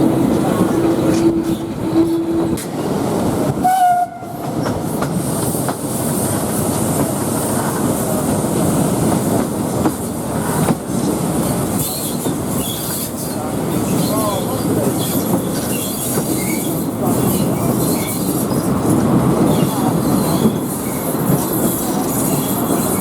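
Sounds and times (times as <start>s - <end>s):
train rumble and wheel clatter: 0.0s - 23.0s.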